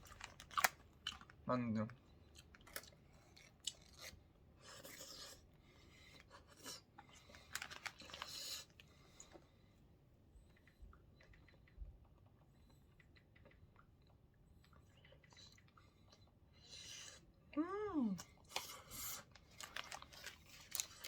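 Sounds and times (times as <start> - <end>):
dumpling being chewed: 0.0 - 9.5, 10.5 - 17.2, 18.2 - 21.0.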